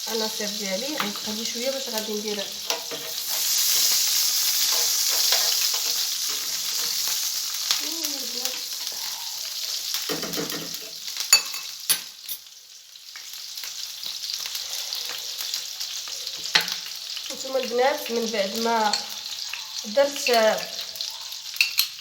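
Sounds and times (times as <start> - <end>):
oil sizzling in a frying pan: 0.0 - 22.0.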